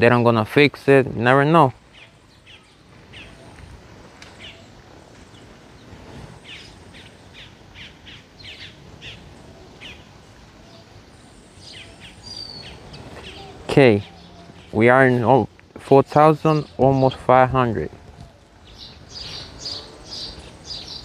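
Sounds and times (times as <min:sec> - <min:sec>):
low wind noise: 0:00.0 - 0:21.0
small birds chirping: 0:00.0 - 0:21.0.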